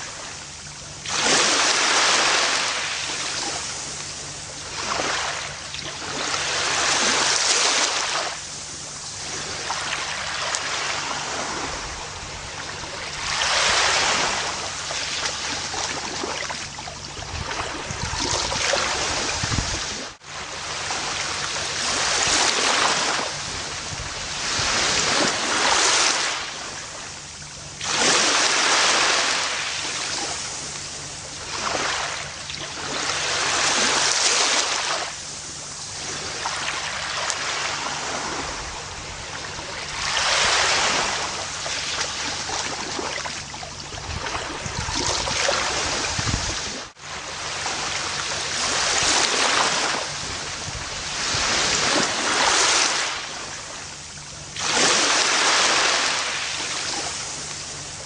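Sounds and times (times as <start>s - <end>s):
ocean waves washing up a beach: 0.0s - 58.0s.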